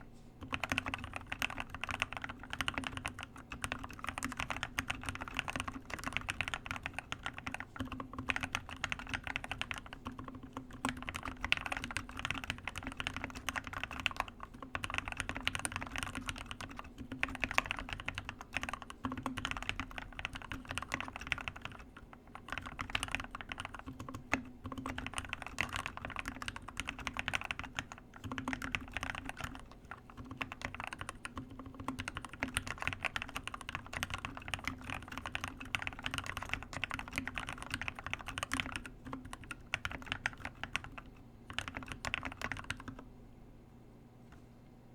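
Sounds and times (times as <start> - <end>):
mechanical keyboard typing: 0.4 - 43.0.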